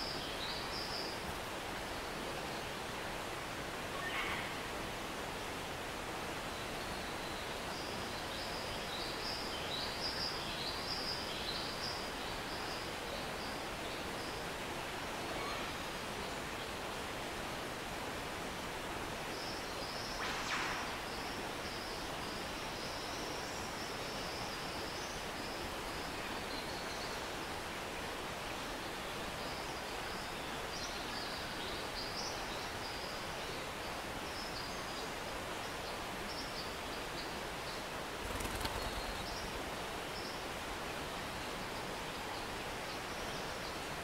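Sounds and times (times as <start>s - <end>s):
stream flowing: 0.0s - 44.0s.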